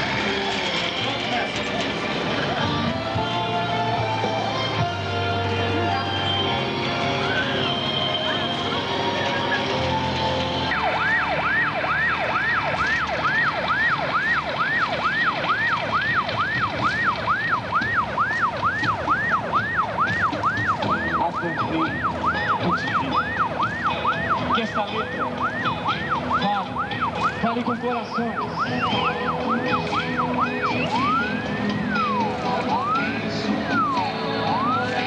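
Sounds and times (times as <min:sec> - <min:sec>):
electronic siren yelping: 0:05.9 - 0:35.0.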